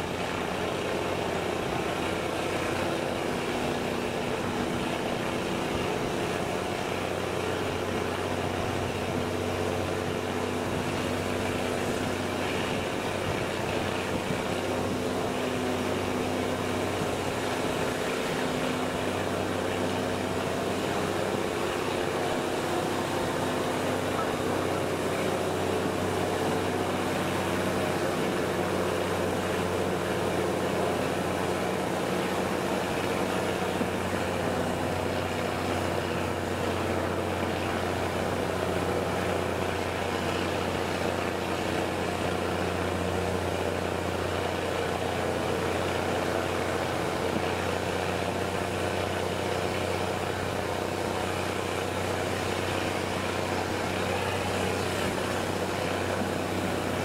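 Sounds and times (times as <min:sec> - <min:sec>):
diesel locomotive engine running: 0:00.0 - 0:57.0.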